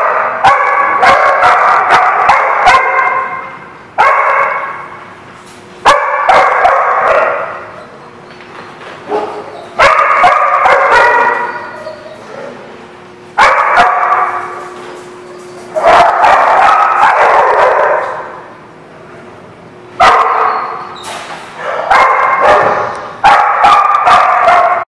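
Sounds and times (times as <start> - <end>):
dogs barking with echo: 0.0 - 5.0, 5.8 - 8.0, 9.0 - 12.6, 13.4 - 18.6, 20.0 - 21.0, 21.6 - 24.9.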